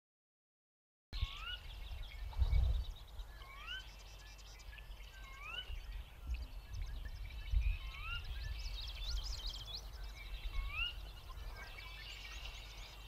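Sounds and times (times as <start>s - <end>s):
faint high bird chirps: 1.2s - 13.0s.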